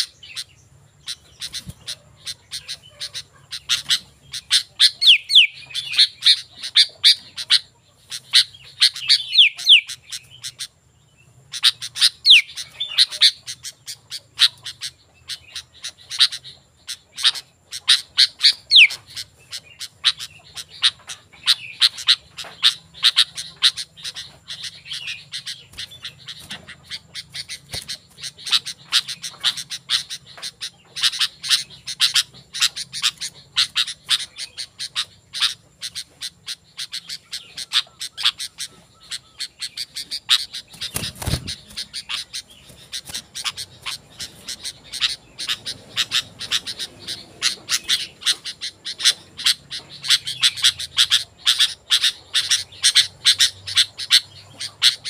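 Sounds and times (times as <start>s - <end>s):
bird chirping rapidly: 0.0s - 55.0s.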